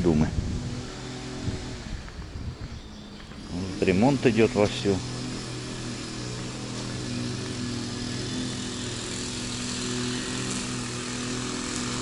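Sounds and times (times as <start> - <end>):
grass trimmer engine running: 0.0 - 12.0.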